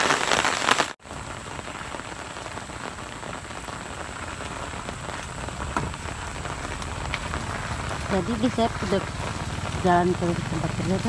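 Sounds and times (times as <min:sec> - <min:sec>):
heavy rain on puddles: 0:00.0 - 0:11.0.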